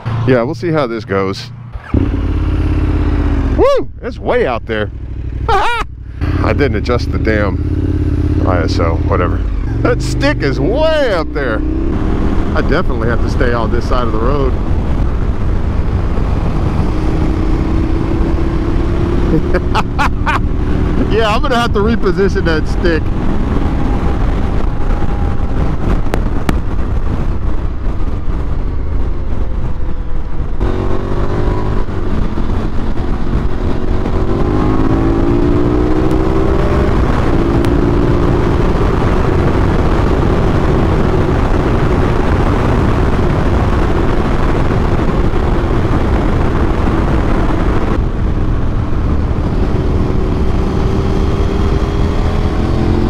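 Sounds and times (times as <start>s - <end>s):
motorcycle engine accelerating: 0.0s - 53.0s
wind buffeting on microphone: 7.3s - 53.0s.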